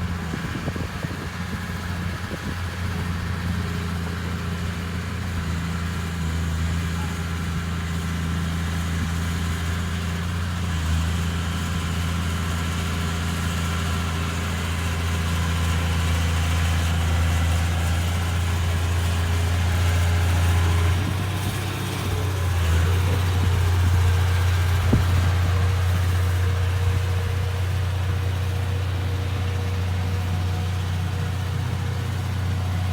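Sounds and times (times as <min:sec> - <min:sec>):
diesel engine humming: 0:00.0 - 0:32.9.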